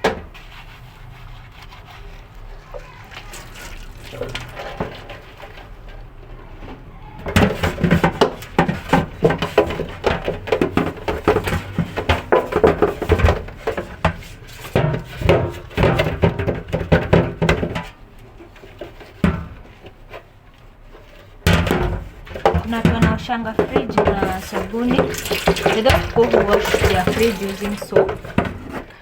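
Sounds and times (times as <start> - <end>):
fridge parts knocking and rattling: 2.6 - 29.0.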